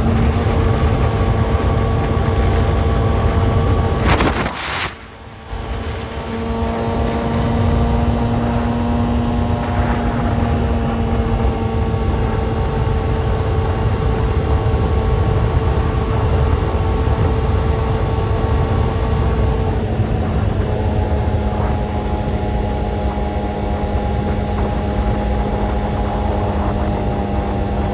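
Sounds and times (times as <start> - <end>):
low wind rumble: 0.0 - 27.9
motorcycle engine: 0.0 - 27.9.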